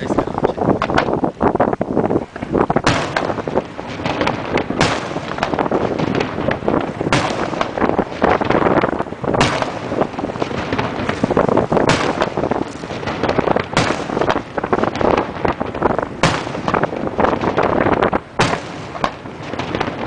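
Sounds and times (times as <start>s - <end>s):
loud firework reports: 0.0s - 20.0s
rapid rattle of firework bangs: 0.0s - 20.0s.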